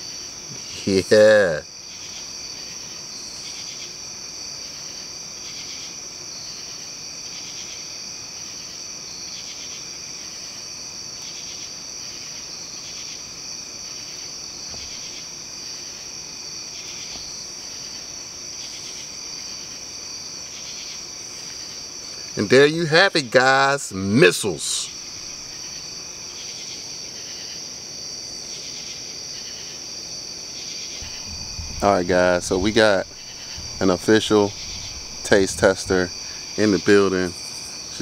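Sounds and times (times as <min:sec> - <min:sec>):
insect chirping in short pulses: 0:00.0 - 0:38.0
insect high-pitched trill: 0:00.0 - 0:38.0.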